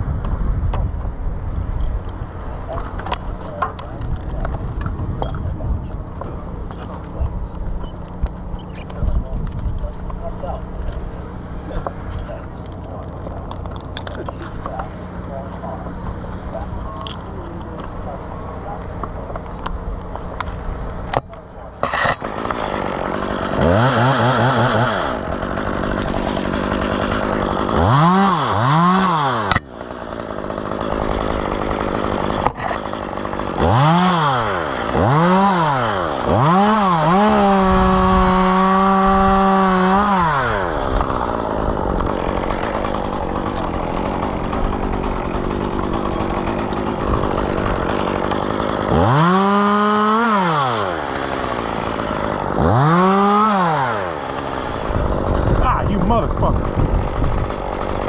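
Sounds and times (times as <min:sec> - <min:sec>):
chainsaw engine revving: 0:01.8 - 0:58.0.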